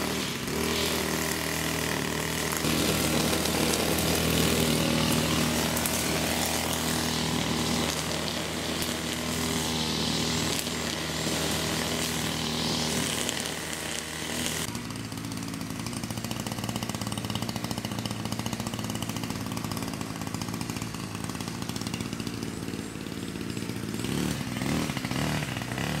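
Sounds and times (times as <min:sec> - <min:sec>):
small engine droning: 0:00.0 - 0:26.0.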